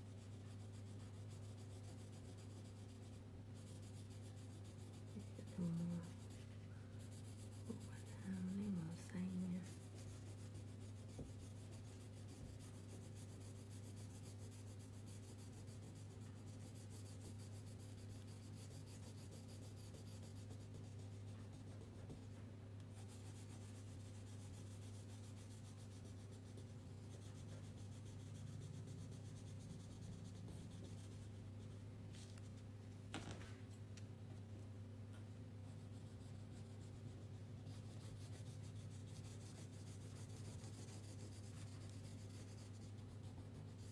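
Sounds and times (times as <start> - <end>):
colouring strokes on paper: 0.0 - 32.5, 35.6 - 43.9
low electrical hum: 0.0 - 43.9.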